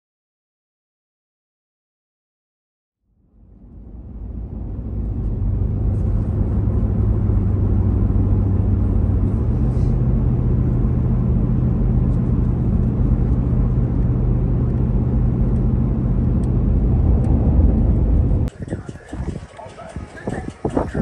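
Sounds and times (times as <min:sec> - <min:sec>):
car engine and tyre drone: 0:03.1 - 0:21.0.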